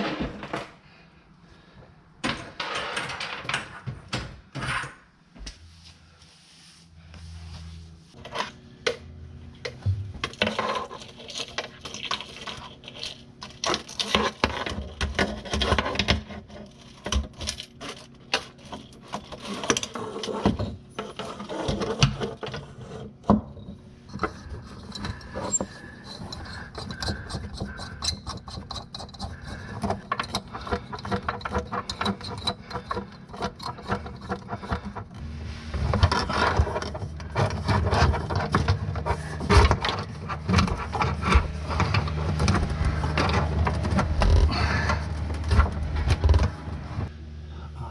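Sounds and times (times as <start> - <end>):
faint steady hum: 3.8 - 47.9.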